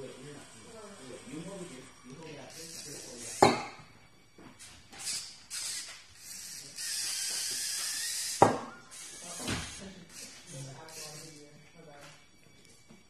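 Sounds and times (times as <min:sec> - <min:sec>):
robot arm motors whirring: 0:00.0 - 0:03.8, 0:04.6 - 0:11.4.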